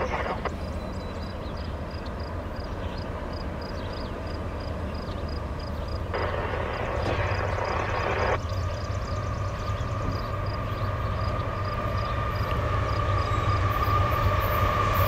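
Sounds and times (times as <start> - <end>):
diesel locomotive engine rumble: 0.0 - 15.0
train rushing noise: 0.0 - 15.0.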